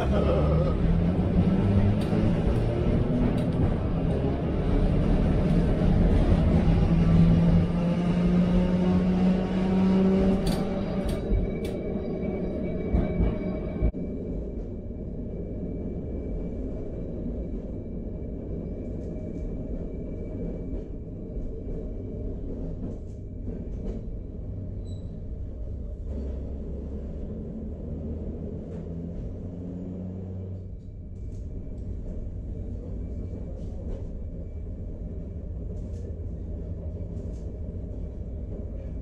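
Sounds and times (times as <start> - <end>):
tram wheels rumbling on rails: 0.0 - 39.0.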